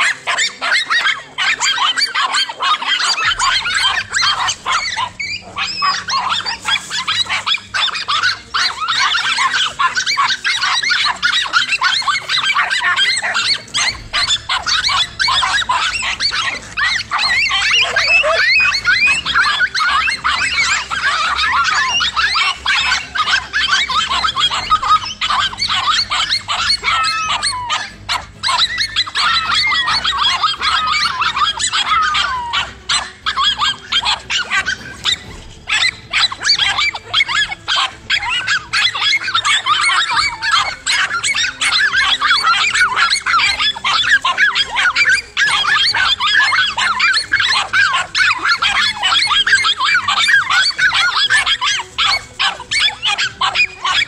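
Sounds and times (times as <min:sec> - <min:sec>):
dogs barking and yelping: 0:00.0 - 0:54.0.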